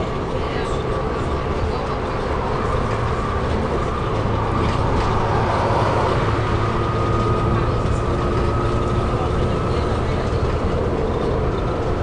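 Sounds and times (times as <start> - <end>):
bus drivetrain drone: 0.0 - 12.0.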